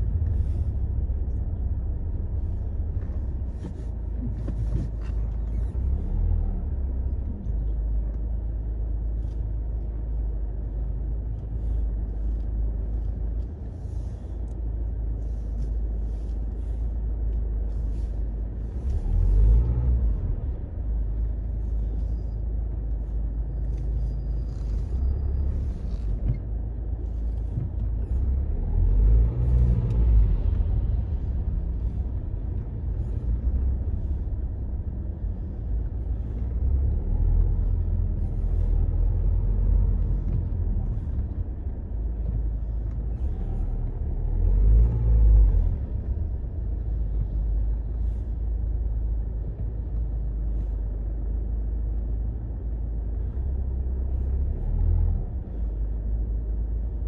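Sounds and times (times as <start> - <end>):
car rumbling in traffic: 0.0 - 57.0.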